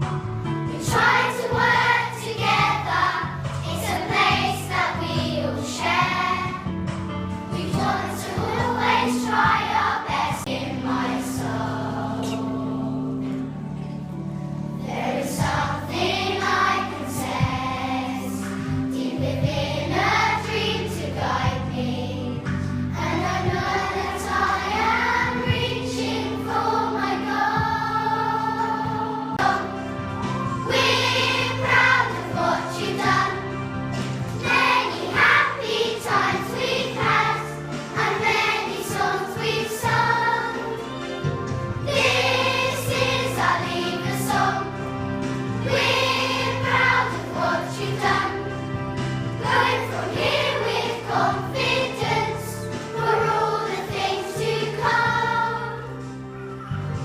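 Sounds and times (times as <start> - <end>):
musical accompaniment: 0.0 - 57.0
children singing as a choir: 0.5 - 56.9.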